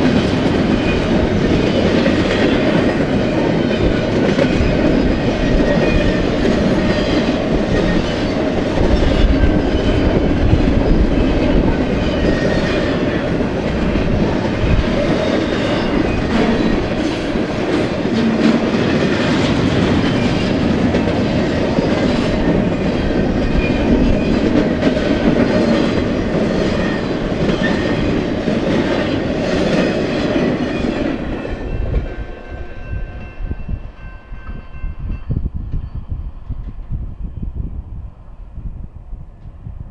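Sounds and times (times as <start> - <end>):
train wheels clattering on rails: 0.0 - 37.0.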